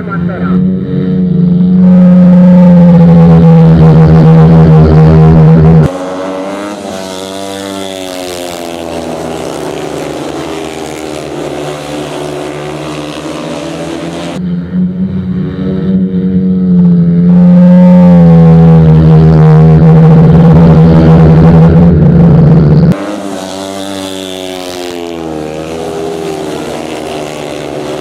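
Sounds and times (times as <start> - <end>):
motorcycle engines racing: 0.0 - 28.0.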